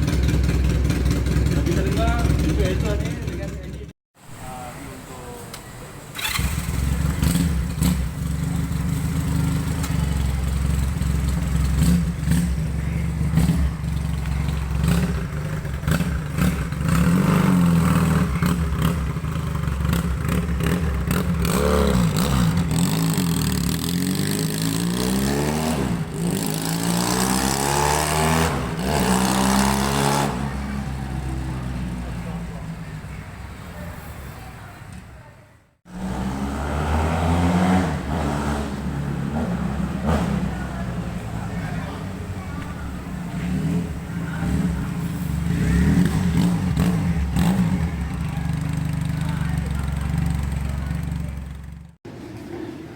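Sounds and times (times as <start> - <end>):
motorcycle engine idling and revving: 0.0 - 52.9.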